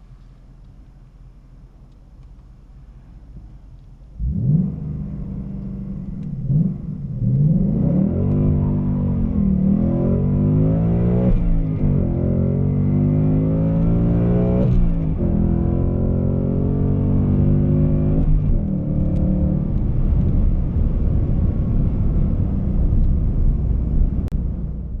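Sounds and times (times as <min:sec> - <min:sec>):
car engine accelerating hard: 0:04.2 - 0:24.6.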